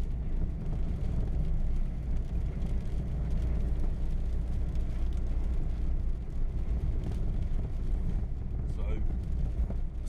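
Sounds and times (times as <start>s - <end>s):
car engine and exhaust drone: 0.0s - 10.0s
road rumble: 0.0s - 10.0s.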